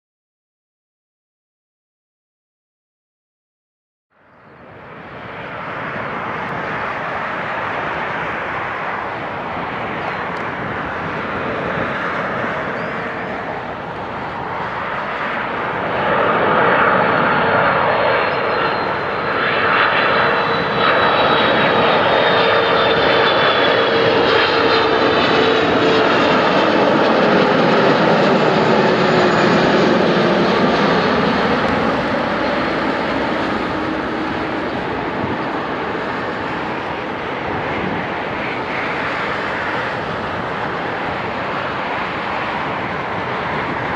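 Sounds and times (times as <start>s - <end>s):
jet airliner approaching: 4.1s - 43.9s
jet engine whine falling in pitch: 4.2s - 43.9s.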